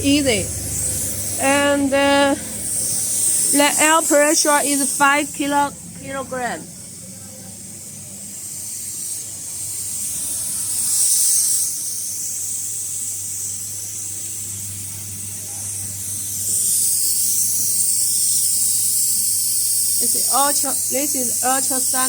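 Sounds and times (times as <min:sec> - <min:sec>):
compressed air hissing: 0:00.0 - 0:22.0.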